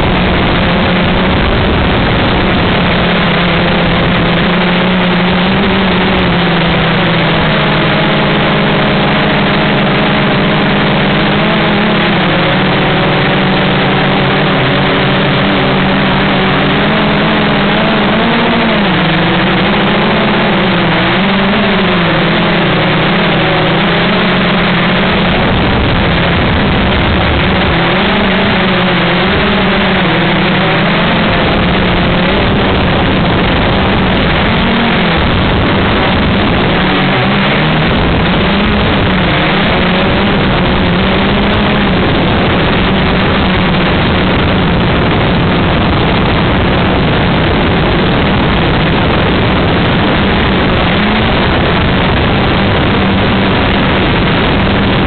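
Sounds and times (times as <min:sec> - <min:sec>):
drone motors and propellers: 0:00.0 - 0:55.0.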